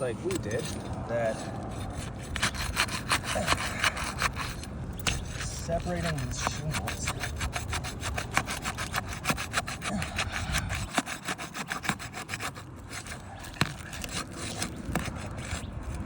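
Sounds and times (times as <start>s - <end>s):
shingles tearing with crackling clicks: 0.0s - 16.0s.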